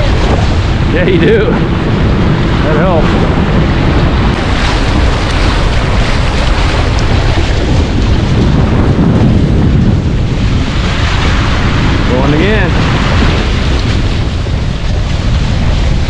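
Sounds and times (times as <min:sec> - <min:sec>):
water rushing along hulls: 0:00.0 - 0:16.0
wind buffeting microphone: 0:00.0 - 0:16.0.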